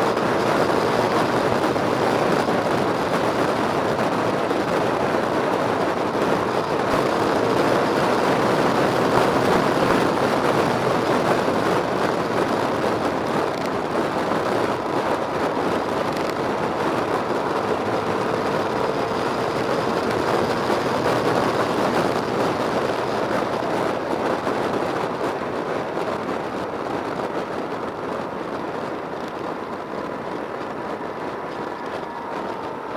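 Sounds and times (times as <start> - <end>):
continuous rushing noise: 0.0 - 32.9
motorcycle engine running: 0.0 - 32.9.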